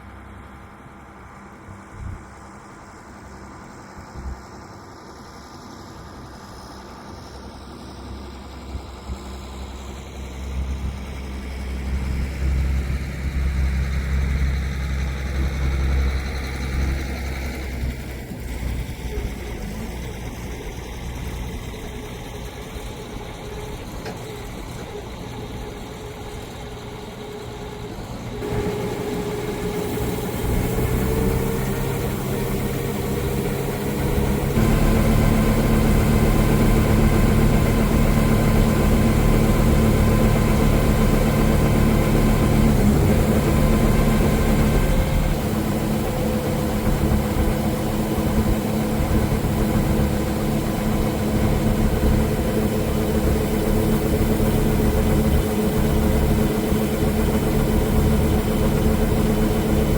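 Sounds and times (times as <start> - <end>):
harvester engine droning: 7.1 - 59.9.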